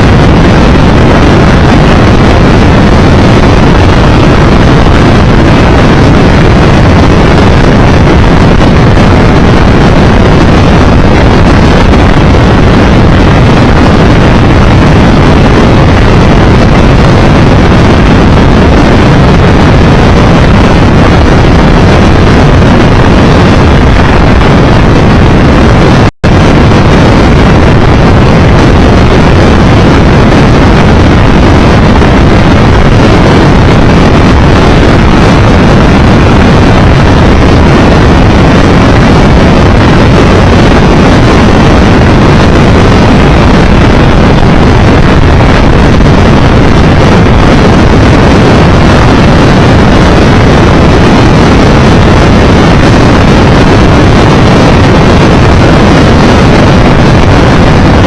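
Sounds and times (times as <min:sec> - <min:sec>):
motorcycle engine at speed: 0:00.0 - 0:58.0
wind buffeting microphone: 0:00.0 - 0:58.0.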